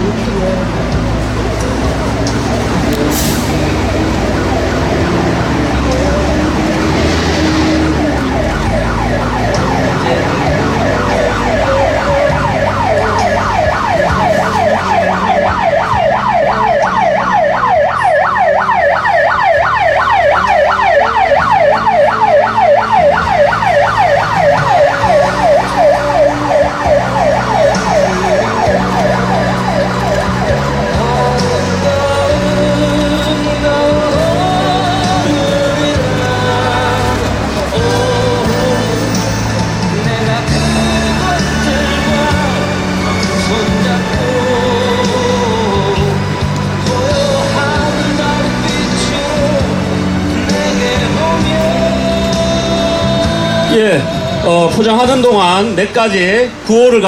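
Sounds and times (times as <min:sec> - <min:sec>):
music from a loudspeaker: 0:00.0 - 0:57.0
siren yelping: 0:02.3 - 0:54.4.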